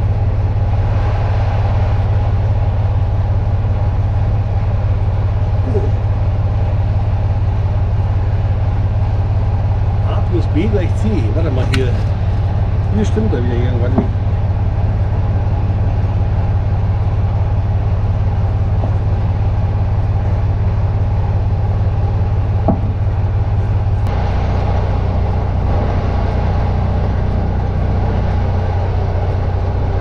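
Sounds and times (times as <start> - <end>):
road noise hiss: 0.0 - 30.0
truck diesel engine drone: 0.0 - 30.0.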